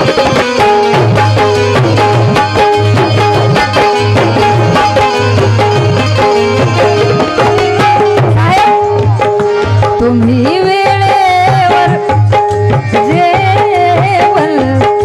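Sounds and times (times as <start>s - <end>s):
melody of held notes: 0.0s - 13.0s
hand drums rhythm: 0.0s - 15.0s.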